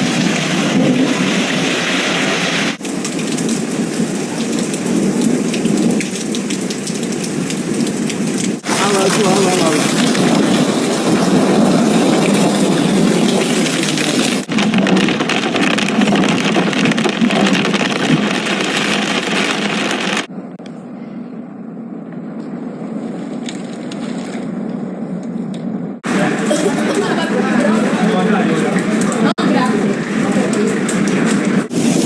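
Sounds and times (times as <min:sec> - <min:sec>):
hail pelting hard surfaces: 0:00.0 - 0:20.3, 0:26.0 - 0:32.0.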